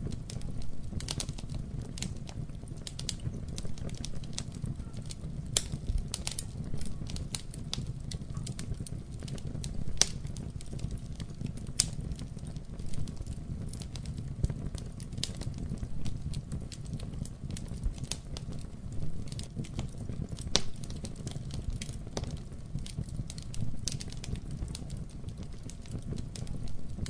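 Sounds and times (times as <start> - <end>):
low rumble of flames: 0.0 - 27.0
sharp pops of fire: 0.0 - 27.0
wood fire crackling: 0.0 - 27.0.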